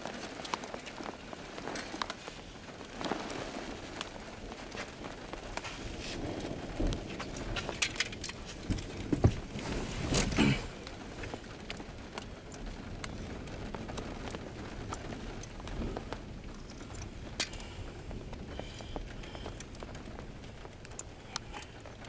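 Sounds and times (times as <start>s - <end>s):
raindrops ticking on a car: 0.0s - 22.0s.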